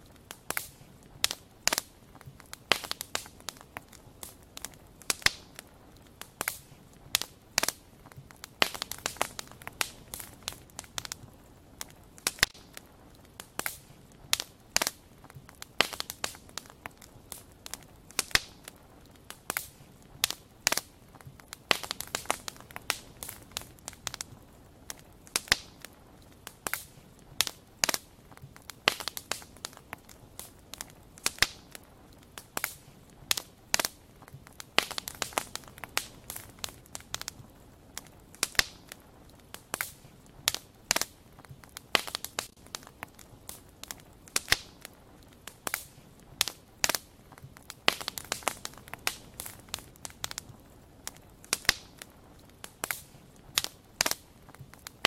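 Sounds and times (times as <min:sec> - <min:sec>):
low steady hiss: 0:00.0 - 0:55.0
wood fire crackling and popping: 0:00.0 - 0:55.0.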